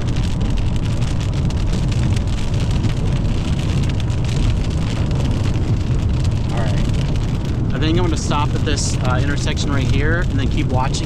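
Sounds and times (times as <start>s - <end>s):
low road and engine rumble: 0.0s - 11.0s
rain hitting a car: 0.0s - 11.0s.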